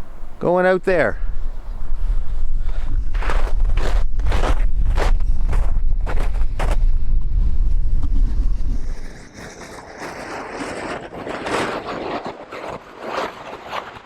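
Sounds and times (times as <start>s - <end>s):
even rushing noise: 0.0s - 11.9s
wind buffeting microphone: 0.0s - 14.0s.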